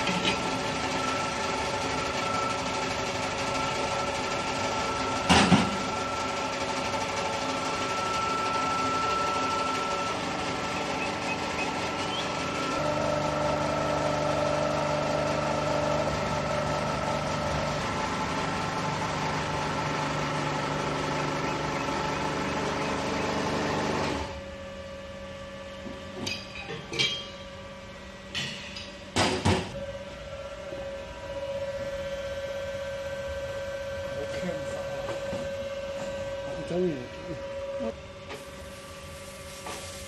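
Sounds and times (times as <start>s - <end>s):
pump motor running: 0.0s - 24.7s, 29.2s - 40.0s.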